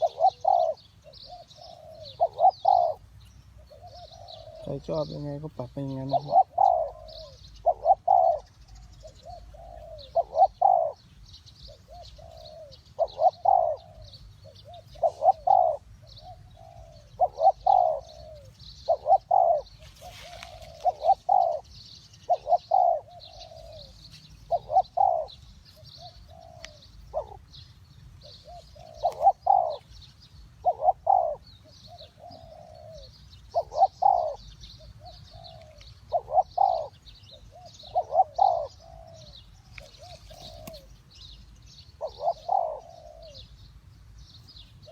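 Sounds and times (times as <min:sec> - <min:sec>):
dove cooing: 0:00.0 - 0:43.6
small birds chirping faintly: 0:00.0 - 0:44.9.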